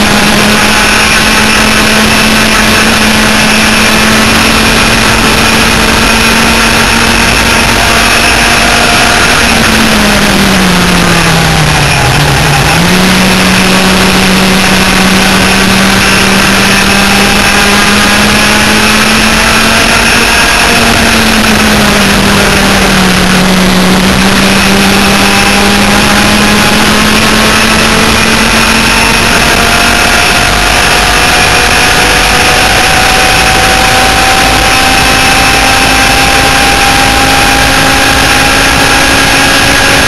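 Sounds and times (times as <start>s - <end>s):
kart engines running hard: 0.0s - 40.0s.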